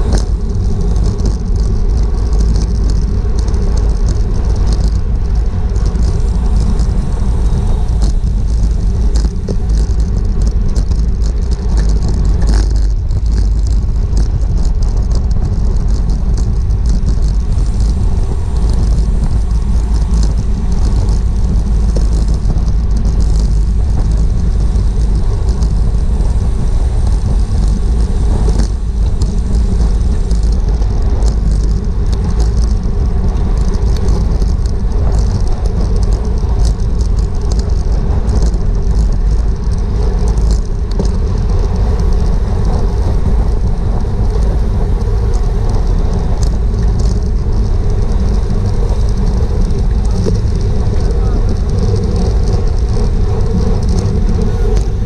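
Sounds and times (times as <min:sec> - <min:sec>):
light clicks and rattles: 0:00.0 - 0:55.0
tyre and road hiss: 0:00.0 - 0:55.0
wind rumble: 0:00.0 - 0:55.0.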